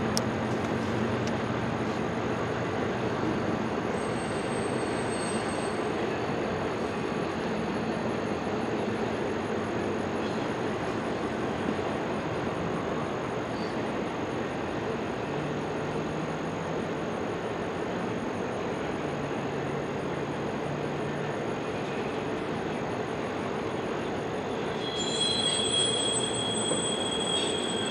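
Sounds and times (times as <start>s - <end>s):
freight train rumbling past: 0.0s - 27.9s.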